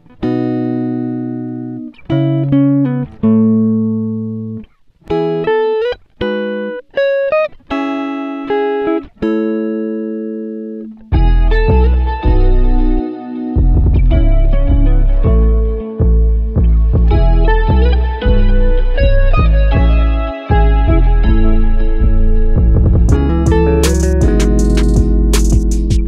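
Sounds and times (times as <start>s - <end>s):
plucked guitar notes: 0.0s - 26.0s.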